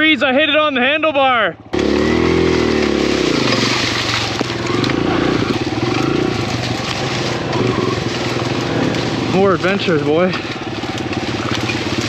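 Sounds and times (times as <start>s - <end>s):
dirt bike engine: 0.0s - 12.0s
branches scraping against bike: 1.8s - 12.0s.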